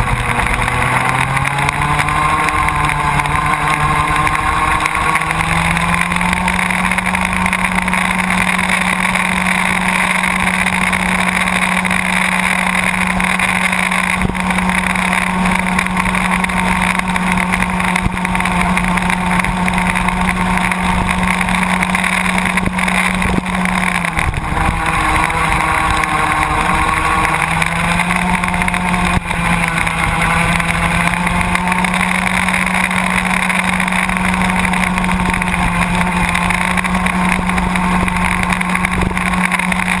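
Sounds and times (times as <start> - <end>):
go-kart two-stroke engine: 0.0 - 40.0.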